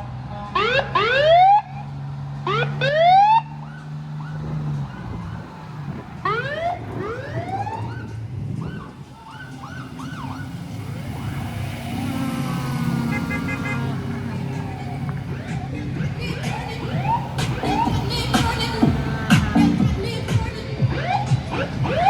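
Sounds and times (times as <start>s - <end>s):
siren whooping: 2.4s - 22.0s.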